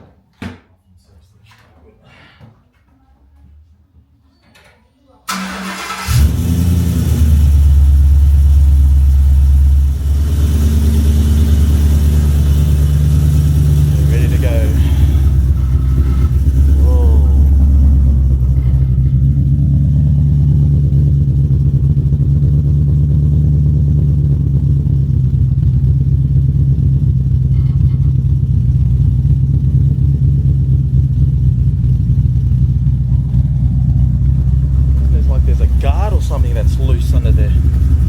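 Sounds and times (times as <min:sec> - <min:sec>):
car engine running steadily: 0:06.1 - 0:38.0.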